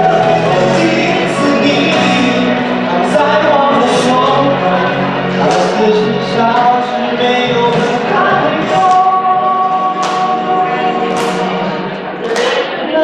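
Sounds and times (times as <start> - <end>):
backing music: 0.0 - 13.0
man singing into microphone: 0.0 - 13.0.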